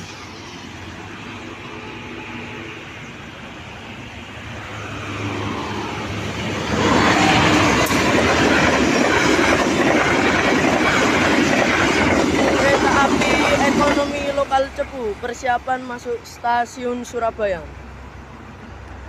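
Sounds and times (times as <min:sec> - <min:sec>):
train wheels on rails: 0:00.0 - 0:16.2
diesel locomotive passing: 0:00.0 - 0:19.0.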